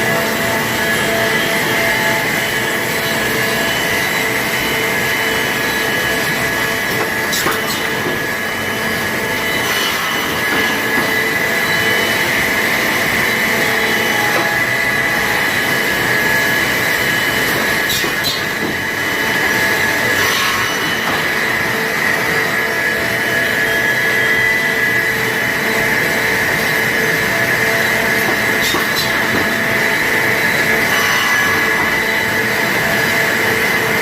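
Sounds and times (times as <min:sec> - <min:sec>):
sawmill machinery whining: 0:00.0 - 0:34.0.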